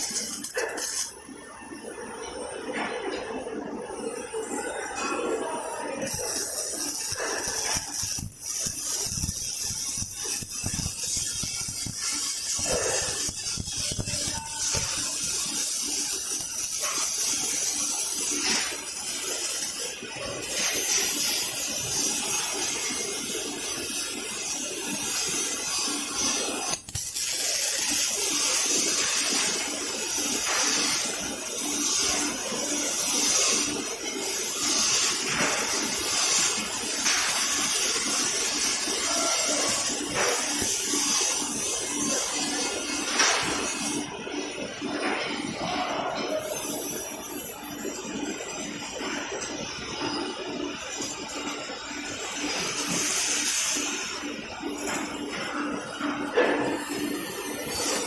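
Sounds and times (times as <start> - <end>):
welding arc hissing and crackling: 0.0 - 58.0.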